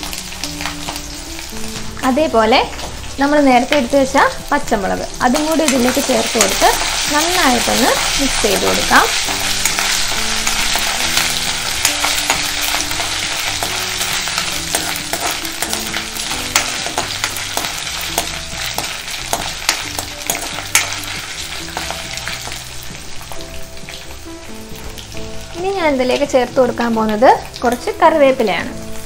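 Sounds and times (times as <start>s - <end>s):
spices sizzling in hot oil: 0.0s - 29.0s.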